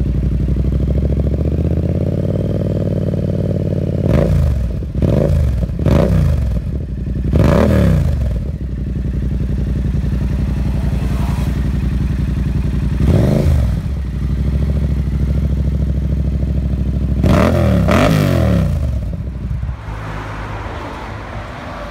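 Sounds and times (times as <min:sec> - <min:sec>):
motorcycle engine revving: 0:00.0 - 0:20.5.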